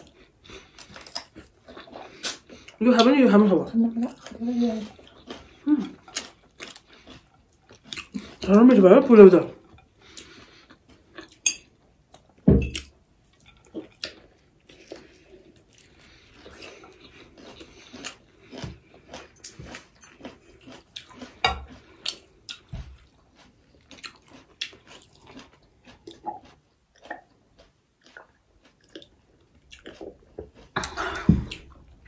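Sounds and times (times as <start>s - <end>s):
person chewing with mouth smacks: 0.0s - 3.1s, 4.0s - 8.4s, 9.6s - 32.0s.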